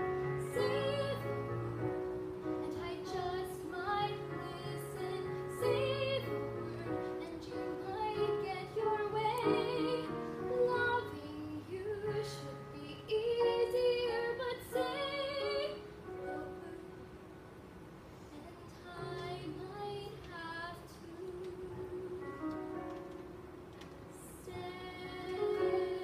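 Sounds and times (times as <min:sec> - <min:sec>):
girl singing: 0:00.4 - 0:01.6, 0:02.6 - 0:17.0, 0:18.3 - 0:22.6, 0:24.1 - 0:26.0.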